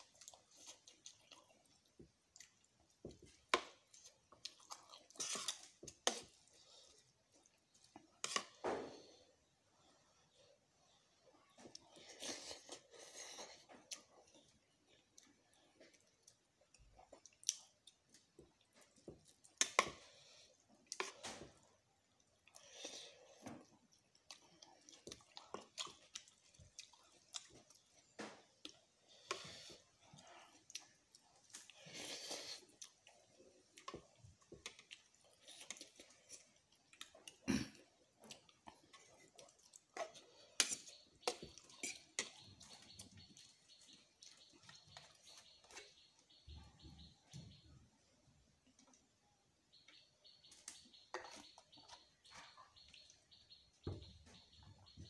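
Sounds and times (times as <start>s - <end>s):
chewing: 0.0s - 8.6s, 10.9s - 46.8s.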